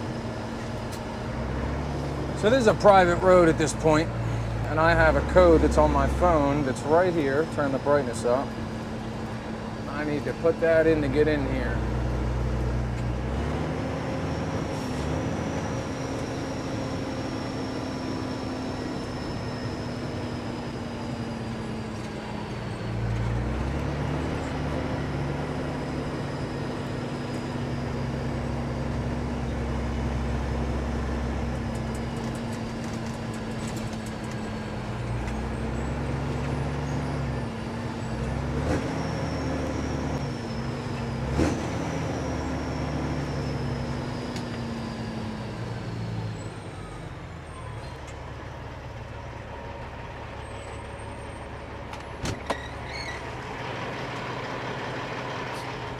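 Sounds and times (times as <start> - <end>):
truck diesel engine pulling away: 0.0 - 55.9.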